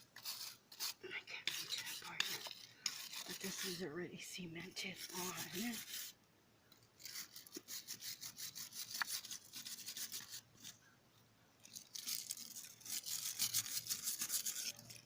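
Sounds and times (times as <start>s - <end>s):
wire brush scrubbing rock: 0.0s - 3.9s, 4.6s - 6.2s, 7.0s - 10.8s, 11.6s - 15.0s.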